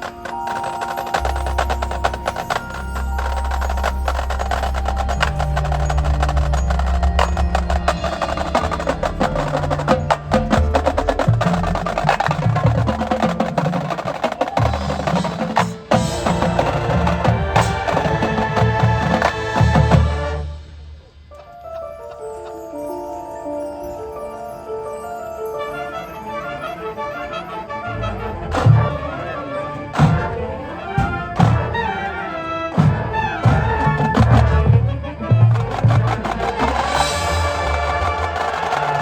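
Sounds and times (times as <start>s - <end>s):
marching band music: 0.0s - 39.0s.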